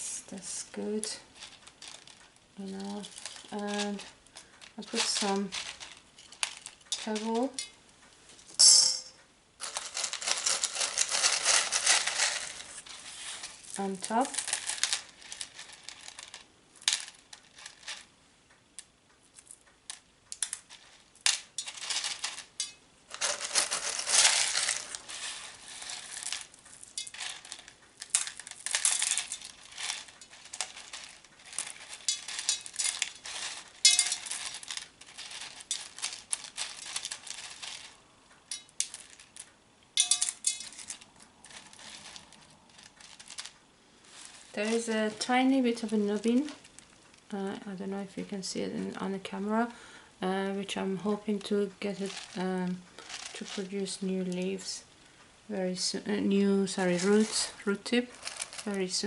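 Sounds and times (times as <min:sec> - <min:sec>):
pebbles clicking and rustling: 0:00.4 - 0:07.8, 0:09.6 - 0:47.3, 0:50.7 - 0:55.0, 0:55.8 - 0:59.0.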